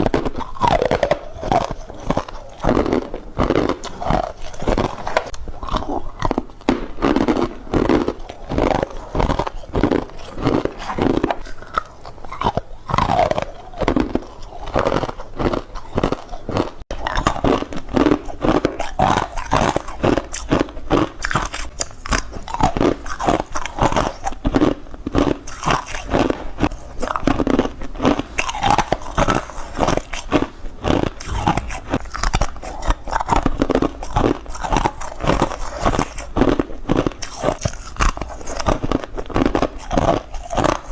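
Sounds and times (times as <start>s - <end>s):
ice being crunched and chewed: 0.0s - 40.9s.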